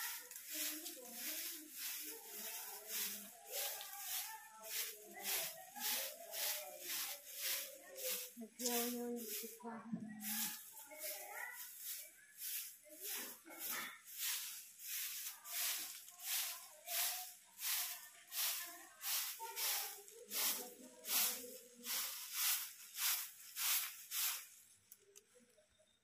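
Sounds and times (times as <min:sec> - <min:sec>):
broom sweeping leaves on concrete: 0:00.0 - 0:25.0.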